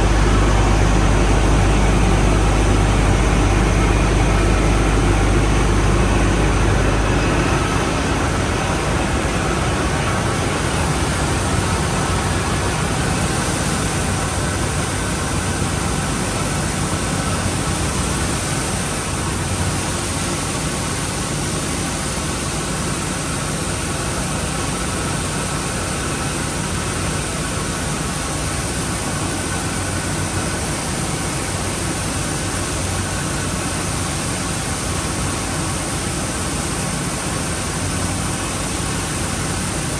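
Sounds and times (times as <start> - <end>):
industrial machinery low hum: 0.0 - 39.9
rushing water hiss: 0.0 - 39.9.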